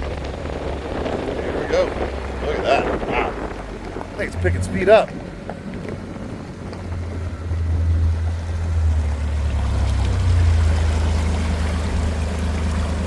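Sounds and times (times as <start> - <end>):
floodwater rushing through culvert: 0.0 - 13.0
strong low rumble: 0.0 - 13.0.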